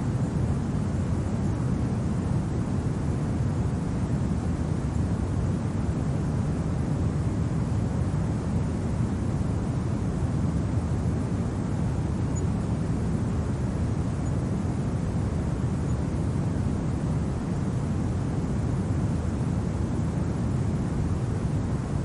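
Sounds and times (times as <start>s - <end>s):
low wind rumble: 0.0s - 22.0s.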